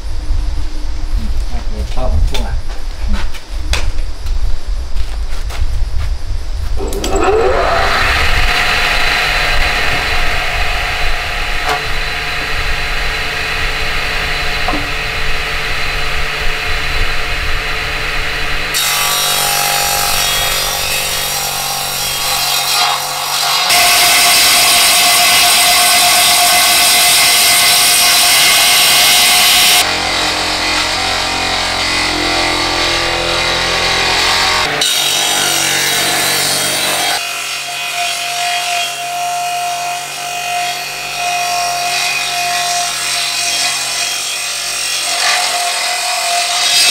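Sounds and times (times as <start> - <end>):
electric wood planer cutting timber: 6.8 - 46.9.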